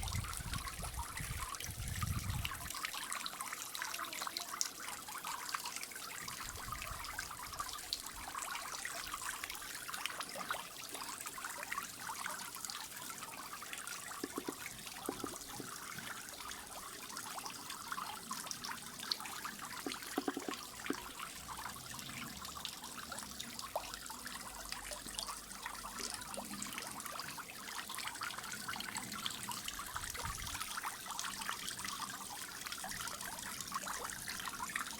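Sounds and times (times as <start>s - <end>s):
waterfall splashing into pond: 0.0s - 34.9s.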